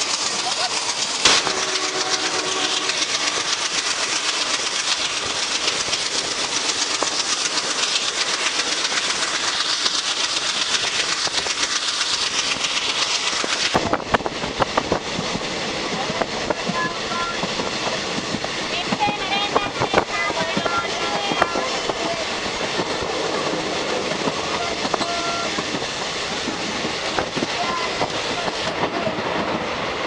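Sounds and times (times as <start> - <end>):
train wheels clickety-clack: 0.0 - 30.0.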